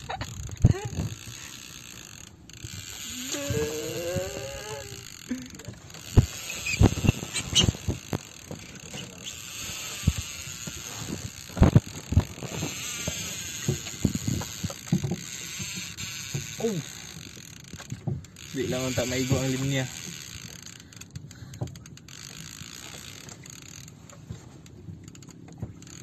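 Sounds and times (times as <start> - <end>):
fishing reel clicking: 0.0 - 26.0.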